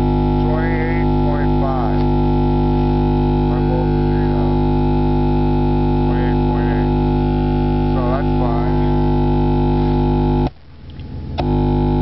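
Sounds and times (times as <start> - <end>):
subwoofer test tone hum: 0.0 - 12.0.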